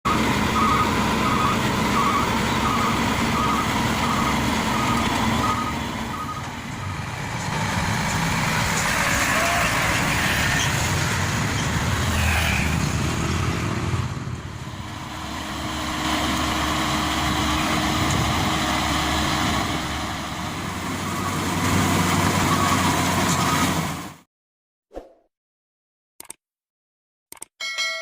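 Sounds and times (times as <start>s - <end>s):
heavy vehicle engine running: 0.0s - 24.2s.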